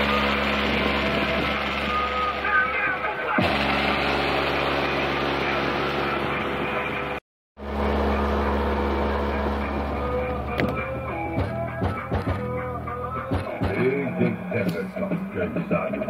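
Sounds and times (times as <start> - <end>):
car stereo with deep bass: 0.0 - 16.0.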